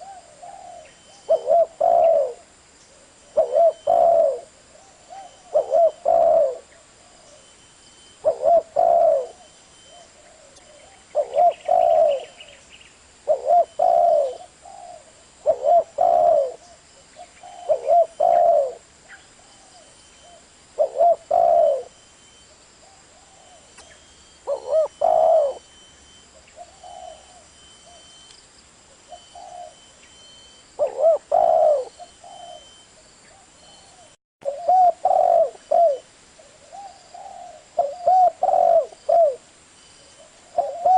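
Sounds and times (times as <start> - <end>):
dove cooing: 0.0 - 7.5, 8.2 - 12.6, 13.2 - 22.0, 22.8 - 28.2, 28.9 - 39.5, 40.1 - 40.9.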